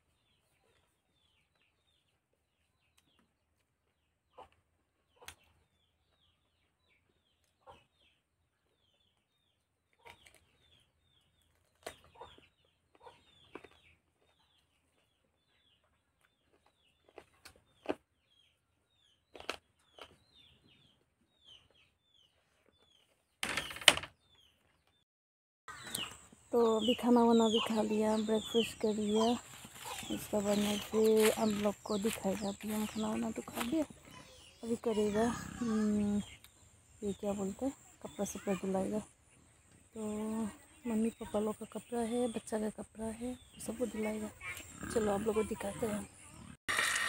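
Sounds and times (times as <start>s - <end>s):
chickens clucking and cheeping: 0.0s - 23.4s, 25.7s - 47.0s.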